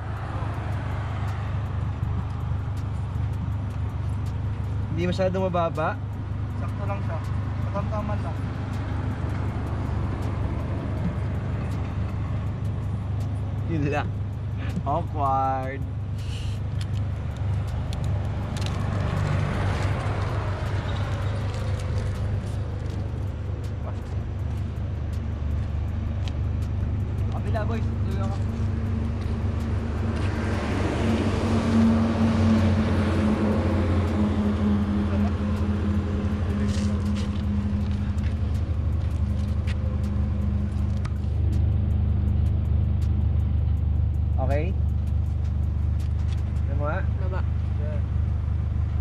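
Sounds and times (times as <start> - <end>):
car engine idling: 0.0 - 49.0
fast regular ticking: 0.0 - 49.0
motor vehicle rumble: 0.0 - 49.0.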